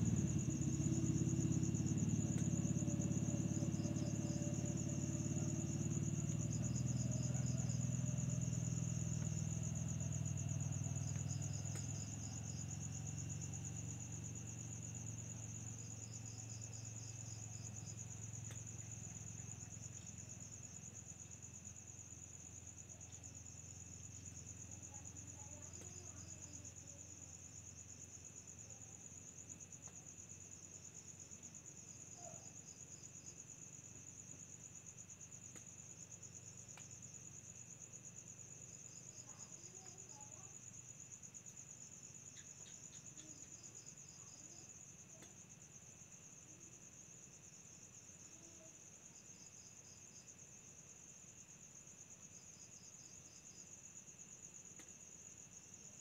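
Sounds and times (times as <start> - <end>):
high pulsing insect trill: 0.0 - 56.0
insect chirps: 0.0 - 56.0.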